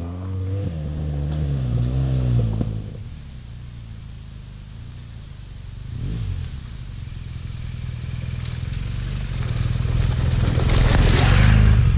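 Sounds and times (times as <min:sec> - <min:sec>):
motorcycle engine: 0:00.0 - 0:11.9.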